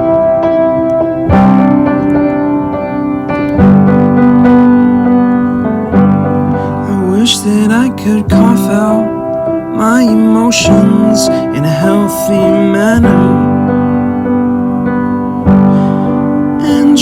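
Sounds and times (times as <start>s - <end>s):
piano chords ringing: 0.0s - 17.0s.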